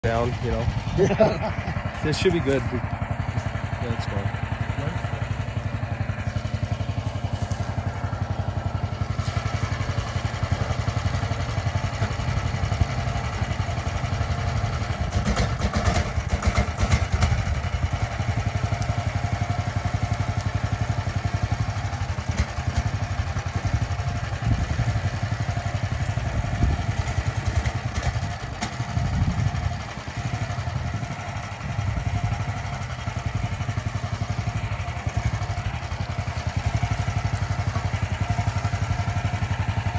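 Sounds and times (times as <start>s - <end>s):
small excavator engine running: 0.0s - 39.9s.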